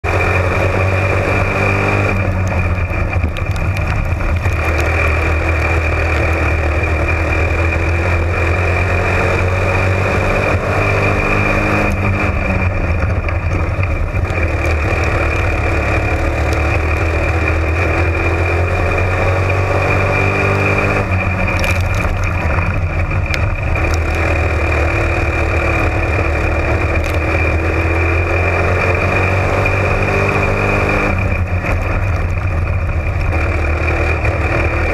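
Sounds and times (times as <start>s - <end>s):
race car engine running hard: 0.0s - 34.9s.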